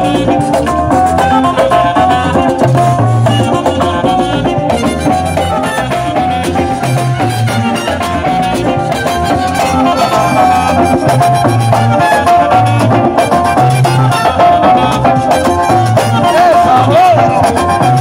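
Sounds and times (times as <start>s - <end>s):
latin dance band over speakers: 0.0s - 18.0s.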